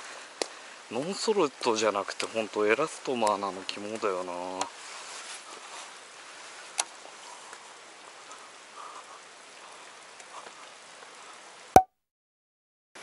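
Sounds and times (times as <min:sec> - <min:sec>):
water running down rock: 0:00.0 - 0:11.6.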